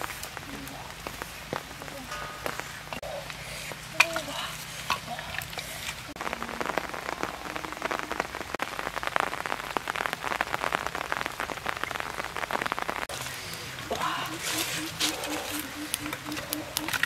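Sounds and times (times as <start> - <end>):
rain on water and leaves: 0.0 - 17.0.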